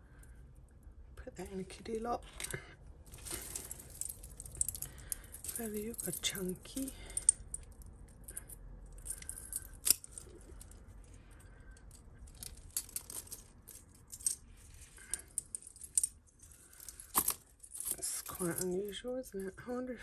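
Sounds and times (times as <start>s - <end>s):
jewellery jangling and clinking: 1.4s - 19.6s.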